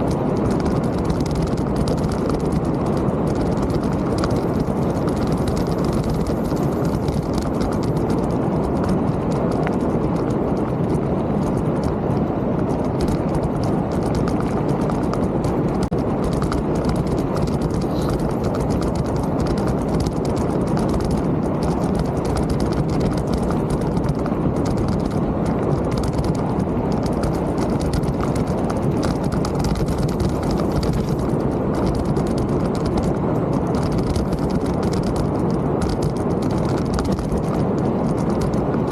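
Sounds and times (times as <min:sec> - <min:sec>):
mountain bike rattling on trail: 0:00.0 - 0:38.9.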